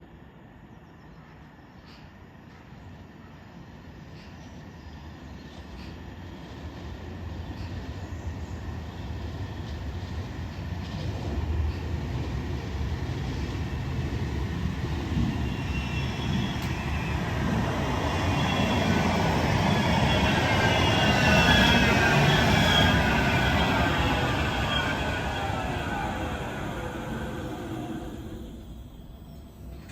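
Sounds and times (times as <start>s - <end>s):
tram wheels rumbling on rails: 1.8s - 29.9s.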